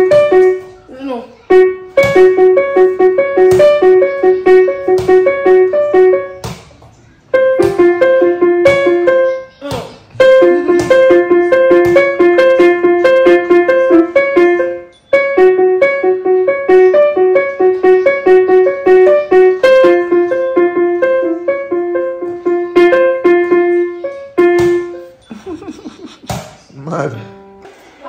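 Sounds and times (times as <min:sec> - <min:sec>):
digital piano repeated figure: 0:00.0 - 0:00.8, 0:01.4 - 0:06.6, 0:07.2 - 0:09.6, 0:10.2 - 0:25.2.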